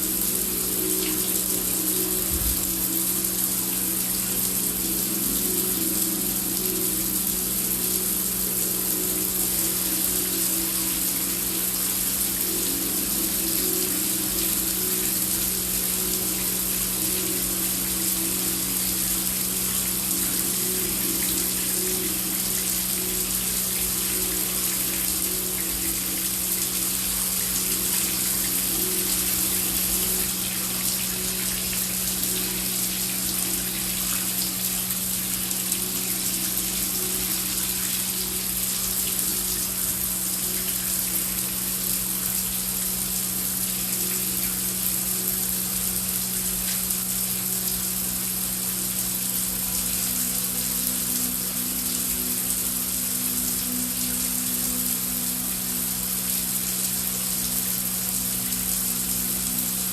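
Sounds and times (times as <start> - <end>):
low steady drone: 0.0 - 59.9.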